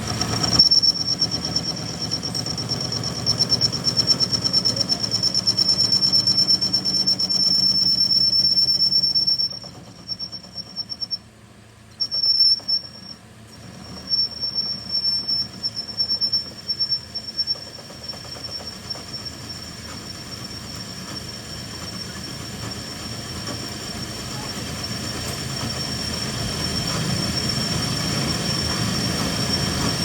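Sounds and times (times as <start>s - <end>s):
high-pitched machinery whine: 0.0s - 11.3s, 12.0s - 30.0s.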